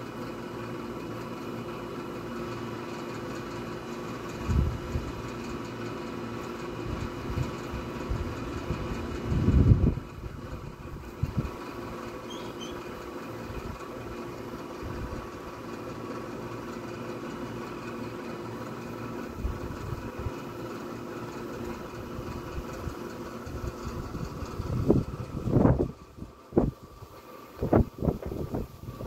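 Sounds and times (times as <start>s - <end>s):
mechanical hum with held tones: 0.0s - 29.0s.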